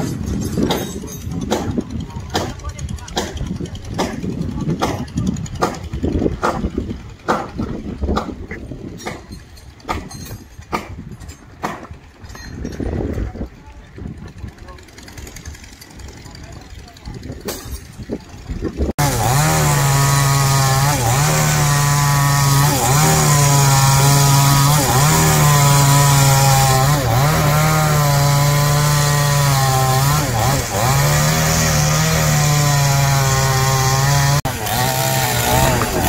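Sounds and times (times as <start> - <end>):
chainsaw cutting wood: 0.0 - 12.3, 14.1 - 36.0.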